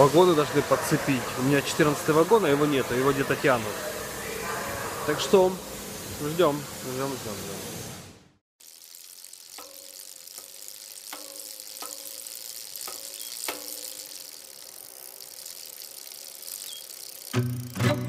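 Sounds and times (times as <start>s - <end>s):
tyres hissing on wet road: 0.0s - 17.5s.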